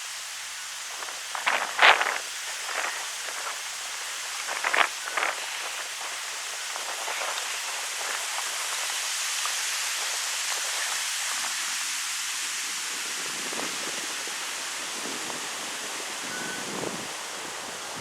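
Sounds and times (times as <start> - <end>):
wind rustling leaves: 0.0 - 18.0.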